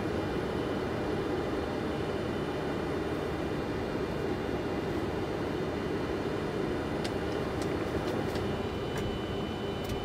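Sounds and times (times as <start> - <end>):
aircraft taxiing rumble: 0.0 - 10.0.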